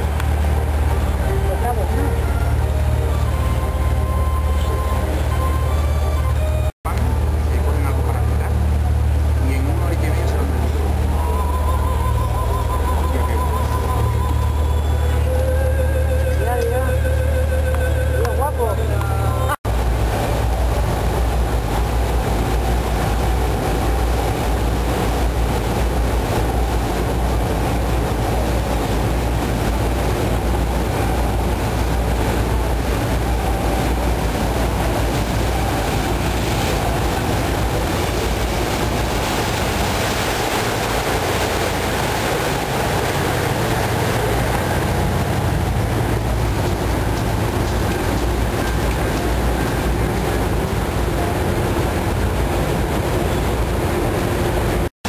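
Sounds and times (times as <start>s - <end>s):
boat engine rumble: 0.0s - 54.9s
wind and water rushing: 0.0s - 54.9s.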